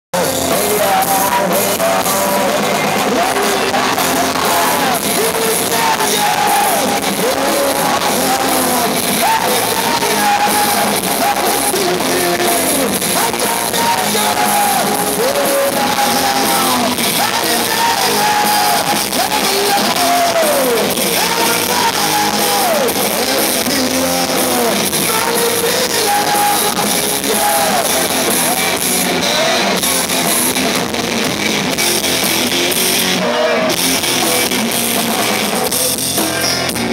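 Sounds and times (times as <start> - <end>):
drums: 0.1 - 36.9
electric guitars: 0.2 - 36.9
person singing lead vocal: 0.2 - 36.9.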